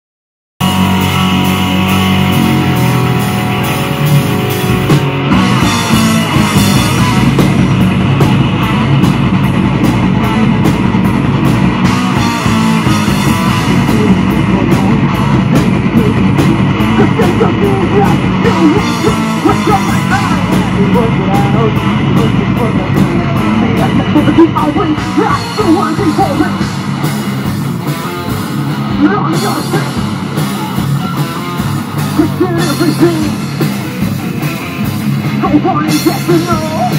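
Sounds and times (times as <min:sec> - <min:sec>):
drum kit beat: 0:00.6 - 0:36.9
metal band playing: 0:00.6 - 0:36.9.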